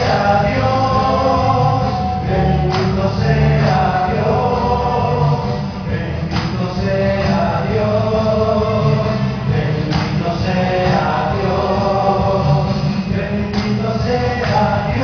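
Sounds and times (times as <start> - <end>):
band with bass and percussion: 0.0 - 15.0
voices singing worship song: 0.0 - 15.0.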